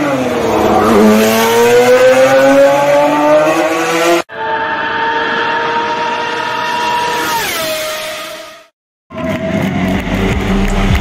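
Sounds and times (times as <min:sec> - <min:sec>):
racing car engine accelerating: 0:00.0 - 0:11.0.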